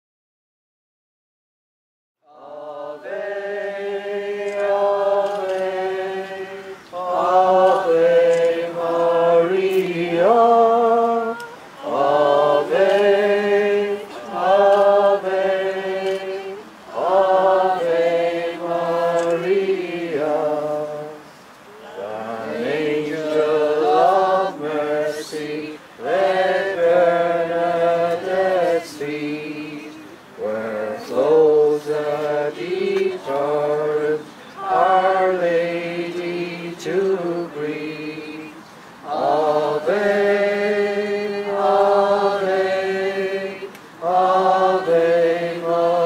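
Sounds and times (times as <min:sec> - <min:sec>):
group singing a hymn unaccompanied: 0:02.2 - 0:46.0.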